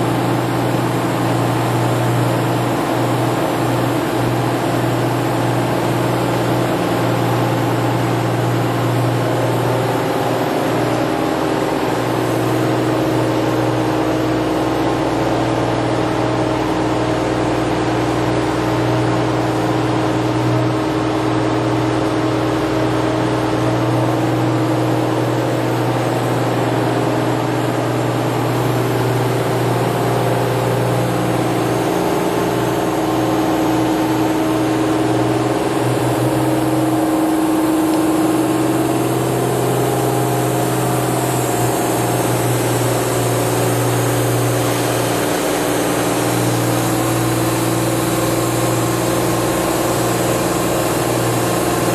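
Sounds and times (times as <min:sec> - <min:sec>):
machine mechanical hum: 0:00.0 - 0:51.9.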